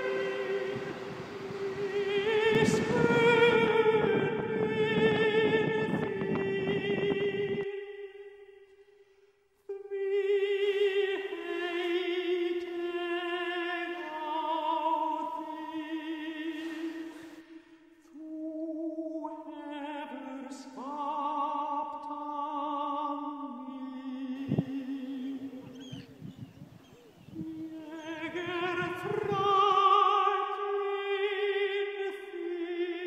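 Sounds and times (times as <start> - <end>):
slow opera-like music: 0.0 - 33.0.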